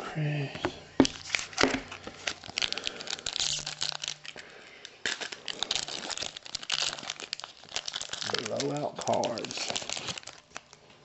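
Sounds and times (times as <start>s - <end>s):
plastic wrapper crinkling: 1.0s - 11.0s.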